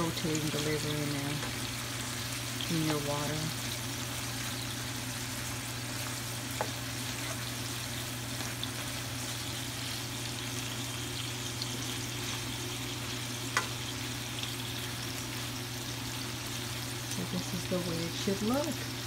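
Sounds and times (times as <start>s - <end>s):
food sizzling in frying pan: 0.0s - 19.0s.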